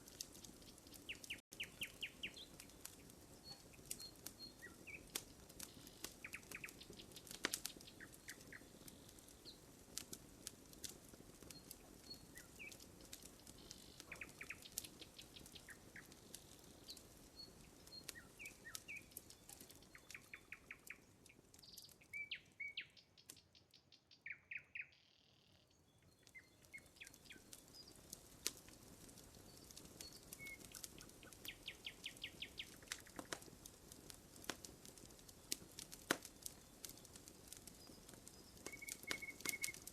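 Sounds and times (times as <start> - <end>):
campfire crackling and popping: 0.0 - 23.8, 25.6 - 39.9
small birds chirping: 0.1 - 10.1, 10.8 - 39.9.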